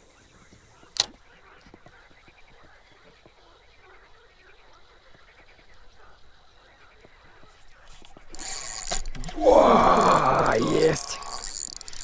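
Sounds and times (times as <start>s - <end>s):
frogs croaking: 0.0s - 12.0s.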